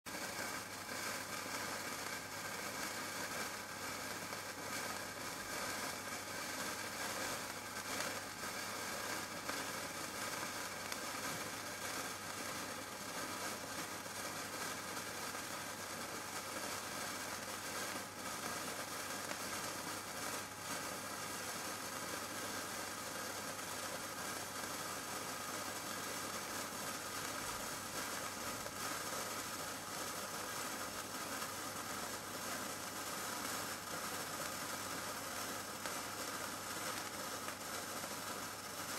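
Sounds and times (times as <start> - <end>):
sparkler fizzing and crackling: 0.1 - 38.9.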